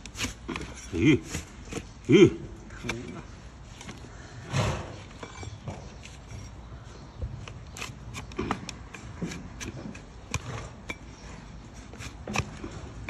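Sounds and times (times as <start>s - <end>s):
blade cutting and scraping hoof: 0.0s - 13.0s.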